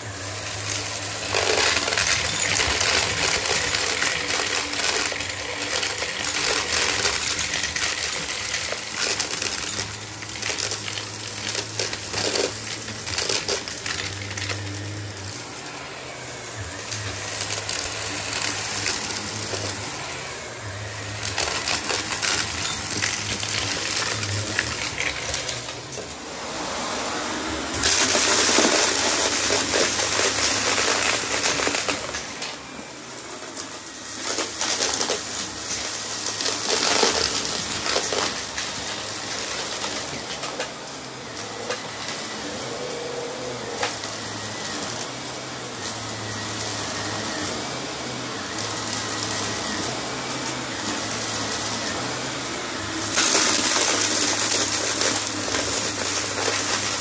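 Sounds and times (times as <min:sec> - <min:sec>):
debris crunching up vacuum hose: 0:00.0 - 0:57.0
vacuum cleaner running: 0:00.0 - 0:57.0.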